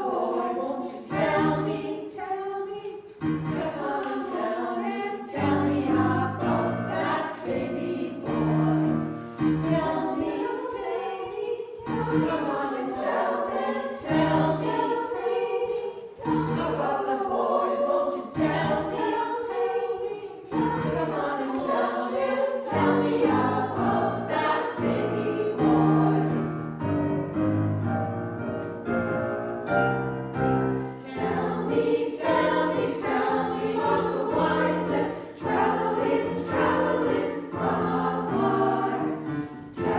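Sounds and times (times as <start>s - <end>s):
choir singing in parts: 0.0s - 39.9s.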